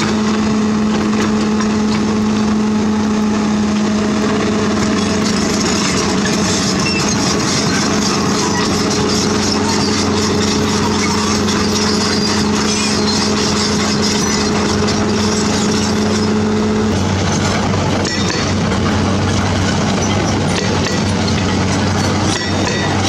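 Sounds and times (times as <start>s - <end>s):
diesel construction machine engine: 0.0s - 23.0s.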